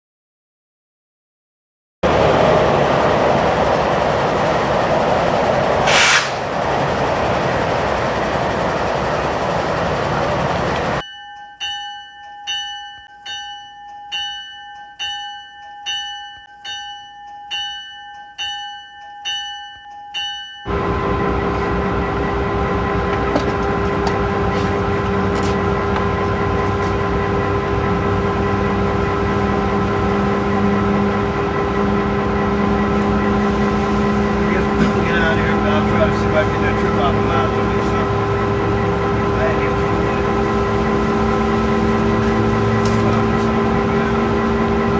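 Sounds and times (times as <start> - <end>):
train running drone: 2.0 - 11.1, 14.0 - 44.9
locomotive bell ringing: 7.2 - 44.9.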